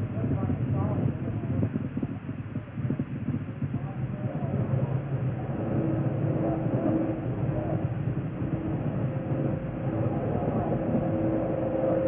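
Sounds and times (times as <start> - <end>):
faint steady hum: 0.0 - 12.0
low rumbling noise: 0.0 - 12.0.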